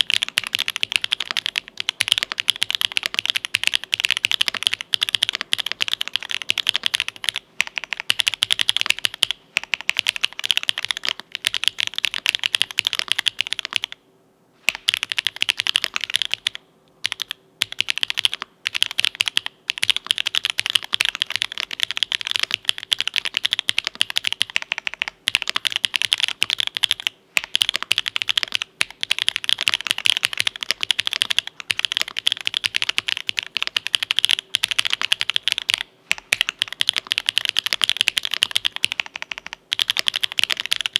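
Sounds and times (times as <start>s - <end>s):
mechanical keyboard typing: 0.0s - 14.0s, 14.7s - 40.9s.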